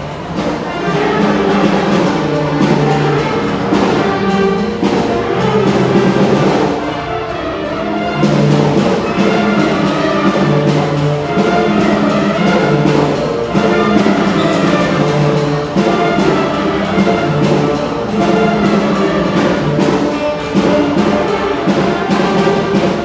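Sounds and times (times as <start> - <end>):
orchestral music with brass: 0.0 - 23.0.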